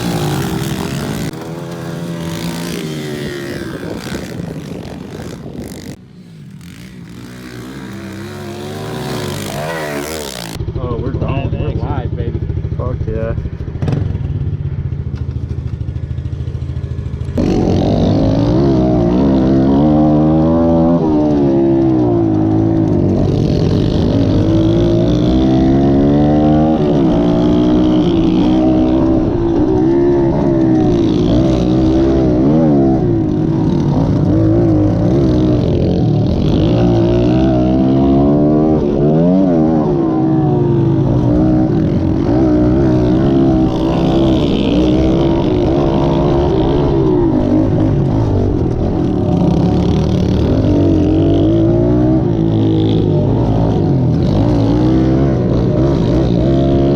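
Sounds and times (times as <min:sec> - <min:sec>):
pit bike engine revving: 0:00.0 - 0:14.8, 0:16.0 - 0:56.9.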